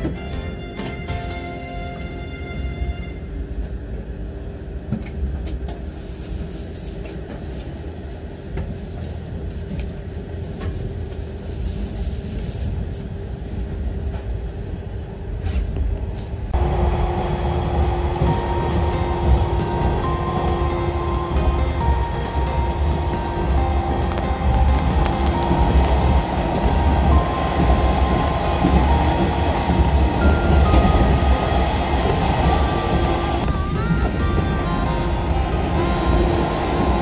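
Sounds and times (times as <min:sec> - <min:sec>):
electric train running: 0:00.0 - 0:37.0.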